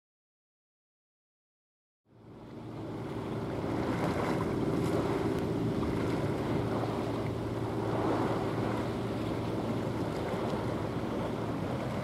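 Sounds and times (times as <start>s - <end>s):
wind: 2.0s - 12.0s
boat engine droning: 2.1s - 12.0s
water noise: 2.1s - 12.0s.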